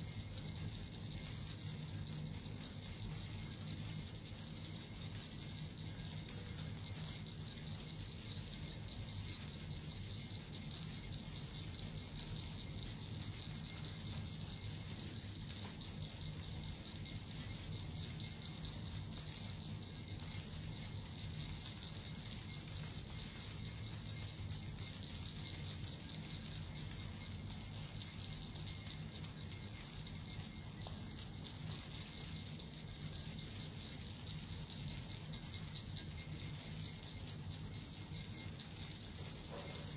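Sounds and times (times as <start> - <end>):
small bells jingling: 0.0 - 39.9.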